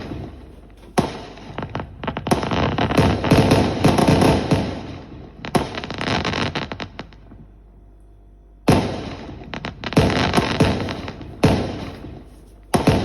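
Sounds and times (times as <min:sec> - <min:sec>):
fireworks bangs and crackles: 0:00.0 - 0:07.5, 0:08.6 - 0:13.0.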